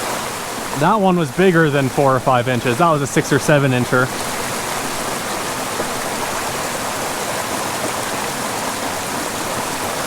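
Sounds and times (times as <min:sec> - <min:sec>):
creek rushing over rocks: 0:00.0 - 0:10.0.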